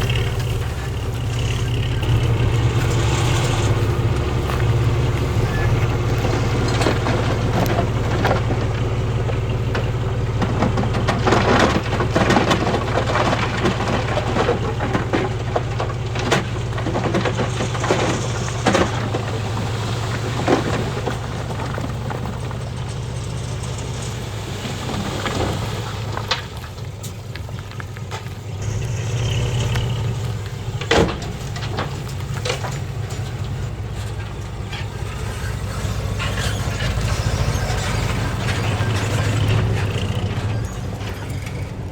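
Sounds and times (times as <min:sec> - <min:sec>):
bulldozer diesel engine: 0:00.0 - 0:41.9
stones crunching and clattering: 0:00.0 - 0:41.9.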